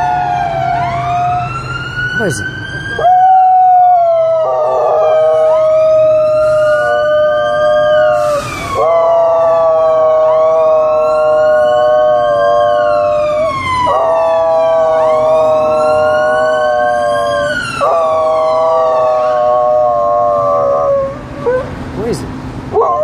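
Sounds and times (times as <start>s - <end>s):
ambulance siren wailing: 0.0s - 21.7s, 22.7s - 23.0s
dog howling: 3.0s - 21.7s.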